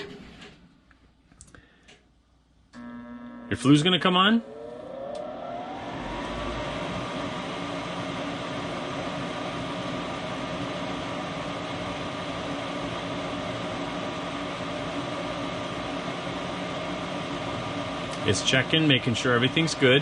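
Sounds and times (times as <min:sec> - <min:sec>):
furnace motor whining: 0:02.7 - 0:20.0.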